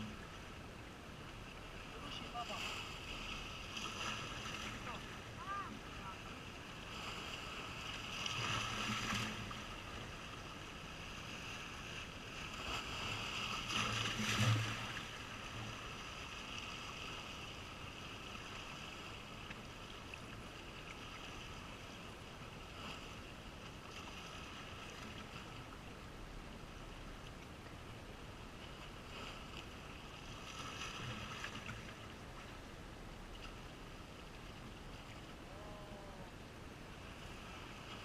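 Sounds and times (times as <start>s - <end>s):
hiss of wind and sea: 0.0s - 38.0s.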